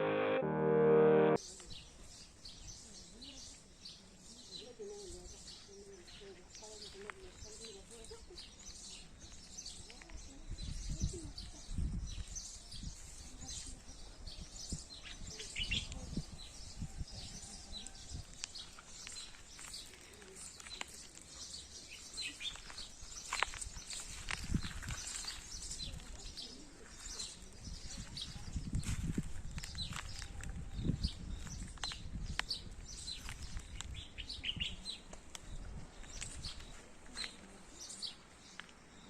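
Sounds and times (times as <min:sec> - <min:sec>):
small birds chirping: 0:01.8 - 0:39.0.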